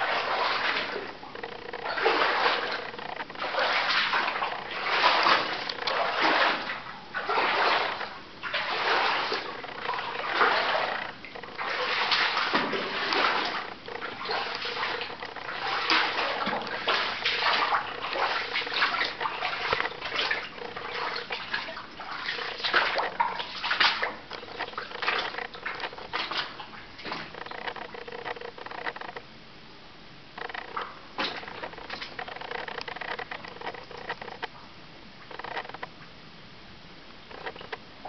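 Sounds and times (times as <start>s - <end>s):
footsteps splashing through water: 0.0s - 28.0s, 30.7s - 34.4s.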